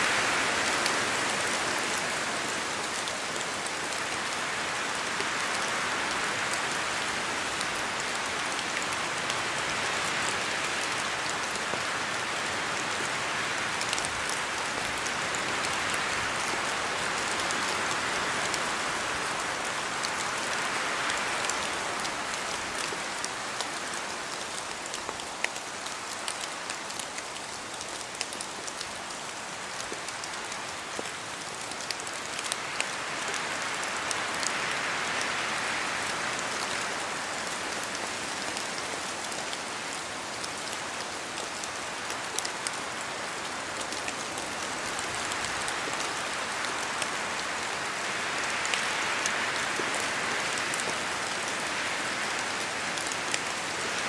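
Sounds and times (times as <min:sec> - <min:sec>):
rain falling through trees: 0:00.0 - 0:54.0.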